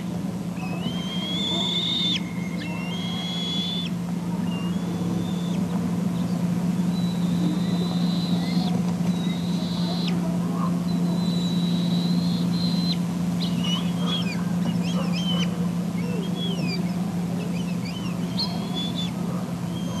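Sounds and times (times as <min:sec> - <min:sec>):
low steady hum: 0:00.0 - 0:20.0
eaglet whistling begging calls: 0:00.6 - 0:20.0.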